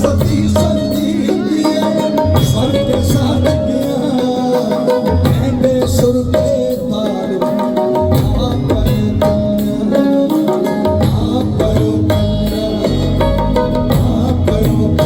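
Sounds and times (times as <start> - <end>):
quick drum strikes: 0.0 - 15.0.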